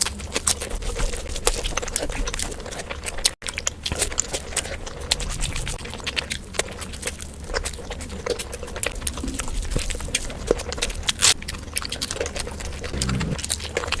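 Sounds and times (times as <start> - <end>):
chewing and mouth noises: 0.0 - 14.0.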